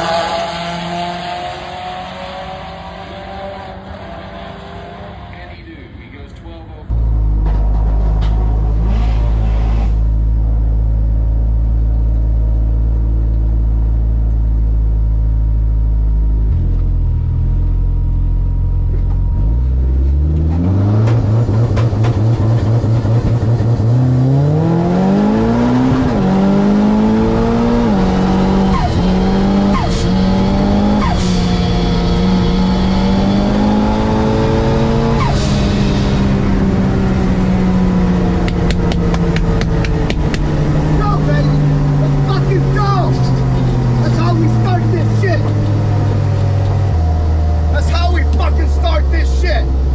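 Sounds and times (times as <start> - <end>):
car engine accelerating: 0.0 - 5.6, 6.9 - 49.9.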